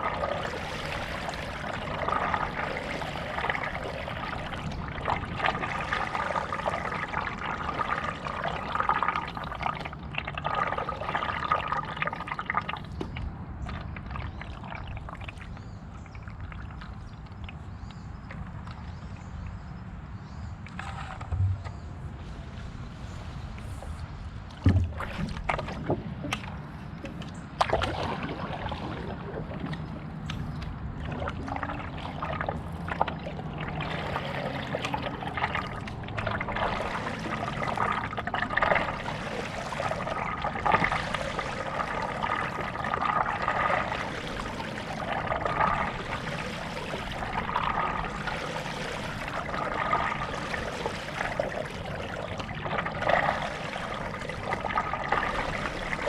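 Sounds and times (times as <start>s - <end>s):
paddle strokes in water: 0.0s - 19.7s, 20.7s - 56.0s.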